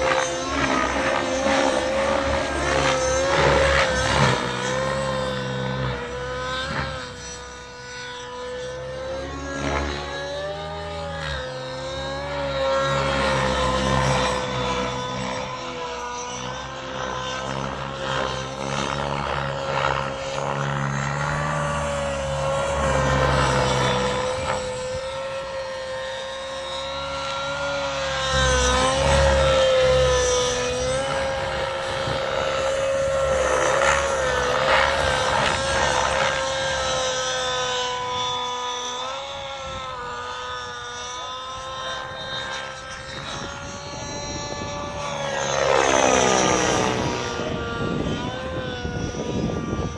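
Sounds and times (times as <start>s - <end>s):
model helicopter engine whining: 0.0s - 49.9s.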